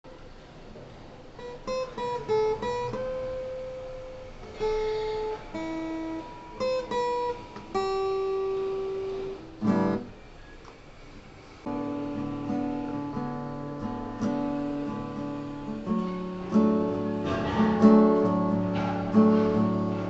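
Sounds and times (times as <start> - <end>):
acoustic guitar plucked melody: 1.3 - 10.2, 11.6 - 20.0.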